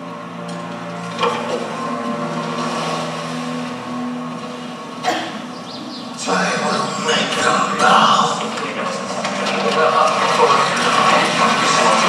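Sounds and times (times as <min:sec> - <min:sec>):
low sustained tones: 0:00.0 - 0:12.0.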